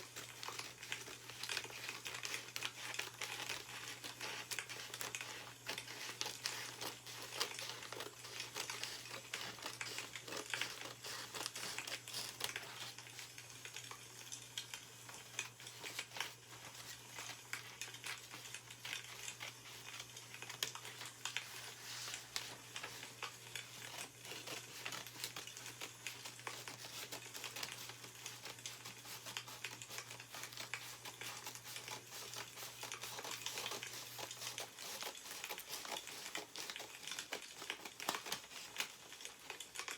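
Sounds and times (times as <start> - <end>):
newspaper pages rustling: 0.0 - 39.9.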